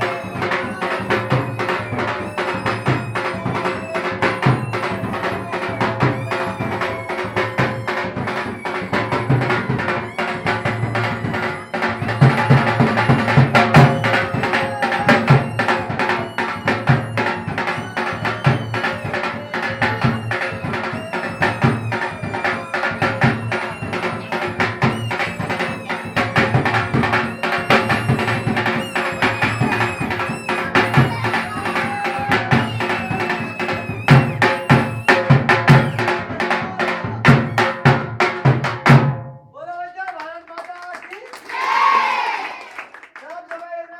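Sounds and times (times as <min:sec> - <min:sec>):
sustained melodic tones: 0:00.0 - 0:36.4
wood block beats: 0:00.0 - 0:39.3
hand drum beats: 0:00.0 - 0:39.4.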